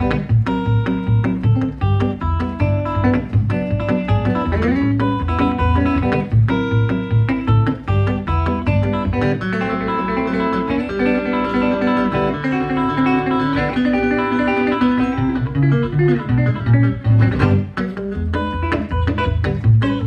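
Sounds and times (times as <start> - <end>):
fingerpicked electric guitar: 0.0 - 20.0.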